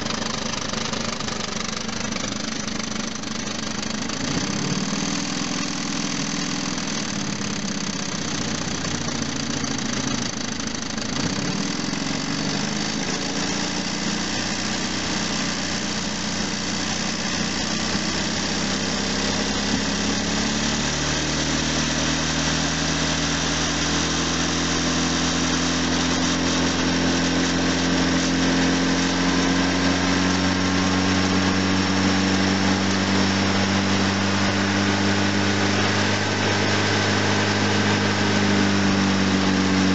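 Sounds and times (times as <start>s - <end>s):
petrol engine running with knock: 0.0s - 39.9s.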